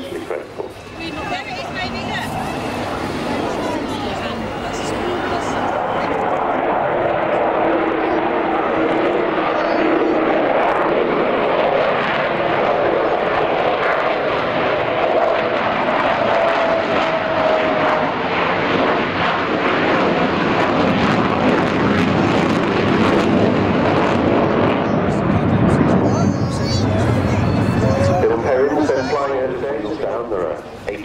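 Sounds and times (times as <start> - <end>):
jet aircraft flying overhead: 0.0 - 31.0.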